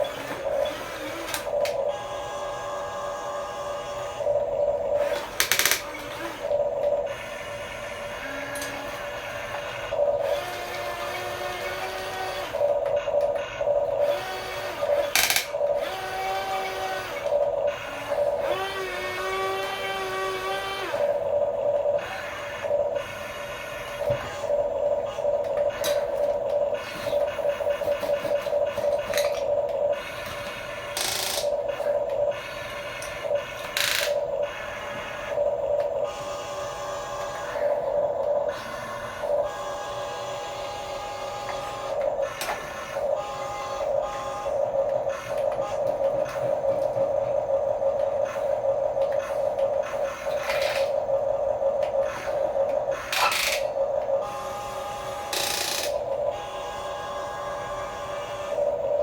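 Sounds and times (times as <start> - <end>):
toy gear motors whining: 0.0 - 59.0.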